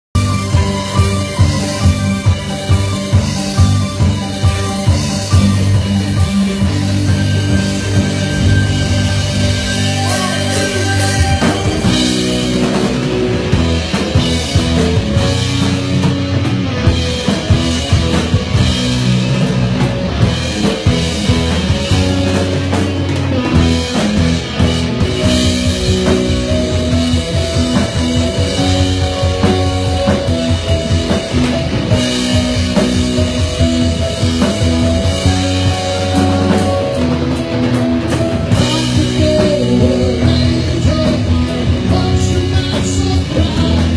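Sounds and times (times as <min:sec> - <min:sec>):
live rock band playing: 0:00.1 - 0:43.9.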